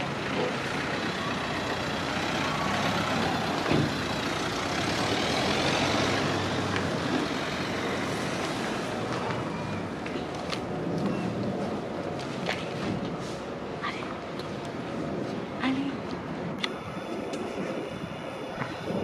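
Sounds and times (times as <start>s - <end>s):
steady rush of noise: 0.0s - 19.0s.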